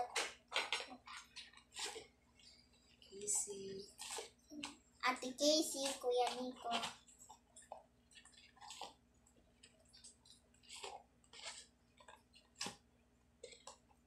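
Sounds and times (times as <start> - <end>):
slime squishing and crackling: 0.0 - 14.0.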